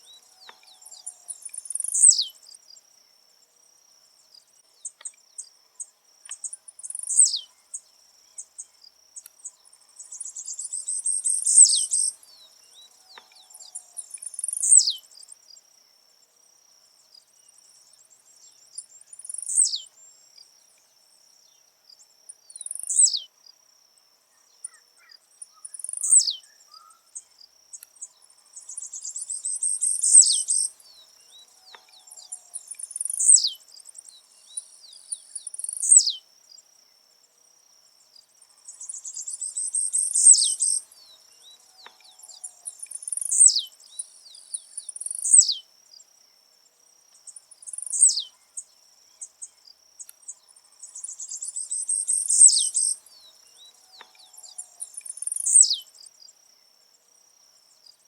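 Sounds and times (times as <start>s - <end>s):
bird singing buzzy song: 0.0s - 58.0s.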